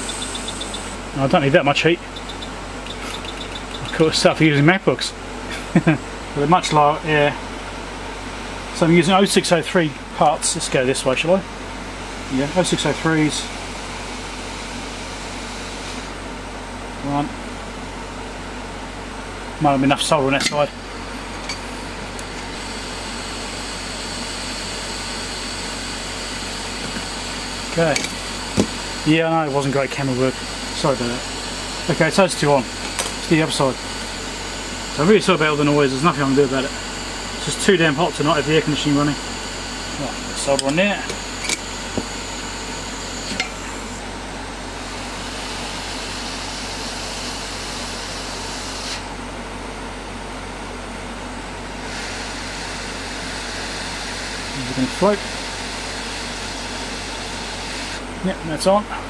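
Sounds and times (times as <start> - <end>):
hot air station blowing: 0.0 - 16.3, 20.8 - 49.1, 51.8 - 59.0
air conditioner whirring: 0.0 - 59.0
extractor fan whirring: 0.0 - 59.0.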